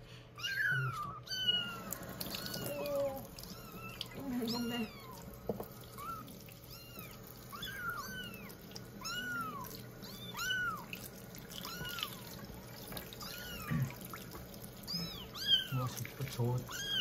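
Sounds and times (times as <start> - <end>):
kittens mewing: 0.3 - 17.0
tap water trickling: 1.9 - 17.0.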